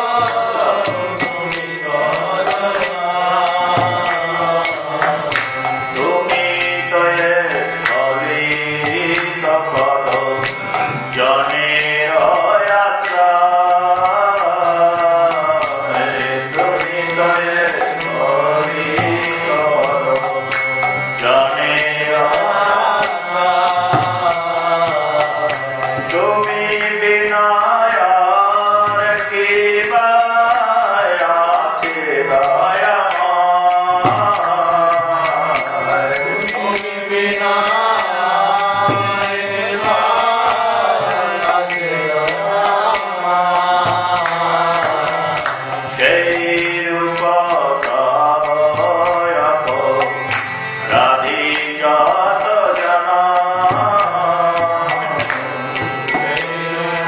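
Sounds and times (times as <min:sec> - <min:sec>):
man chanting melodically: 0:00.0 - 0:20.5, 0:21.2 - 0:57.0
high clinking beat: 0:00.0 - 0:57.0.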